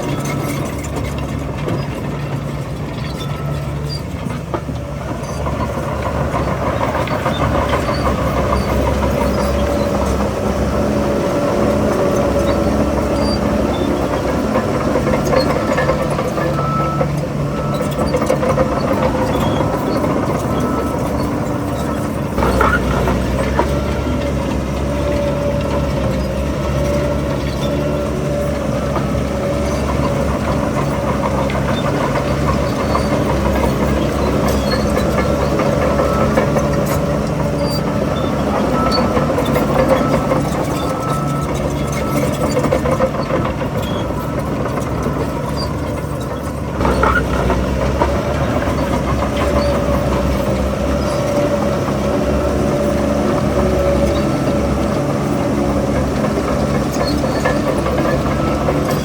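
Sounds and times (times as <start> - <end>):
diesel engine of earthmoving machine: 0.0 - 59.0.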